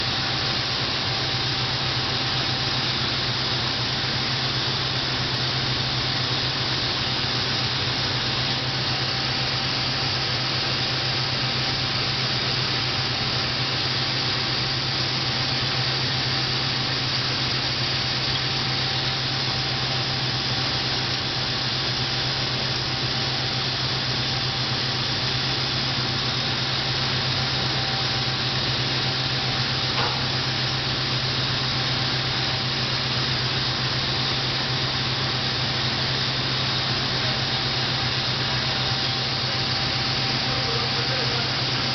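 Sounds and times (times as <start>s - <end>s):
constant low hum: 0.0s - 41.9s
factory machinery hiss: 0.0s - 41.9s.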